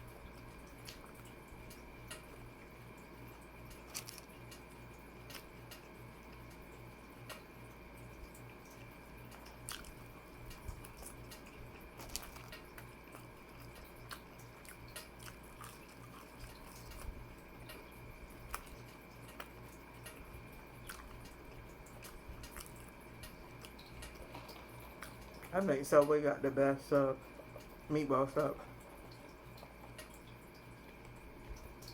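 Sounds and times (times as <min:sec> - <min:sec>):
wet chewing: 0:00.0 - 0:07.5, 0:08.1 - 0:26.3
faint low hum: 0:00.0 - 0:31.9.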